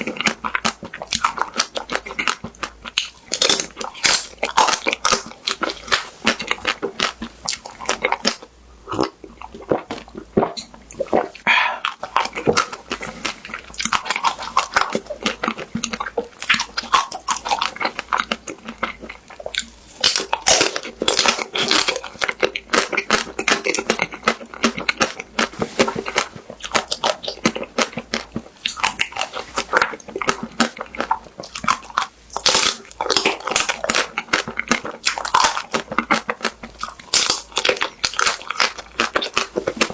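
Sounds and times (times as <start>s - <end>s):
crunching ice cream bar coating: 0.0s - 8.5s, 11.9s - 39.9s.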